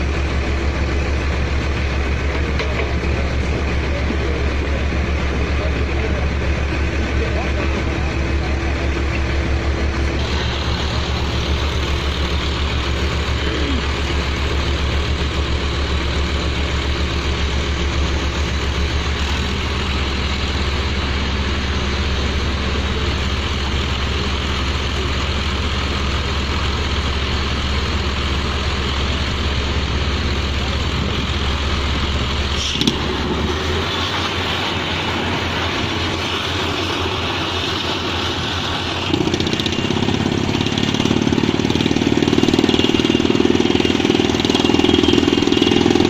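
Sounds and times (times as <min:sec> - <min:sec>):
drilling rig engine throbbing: 0:00.0 - 0:46.0.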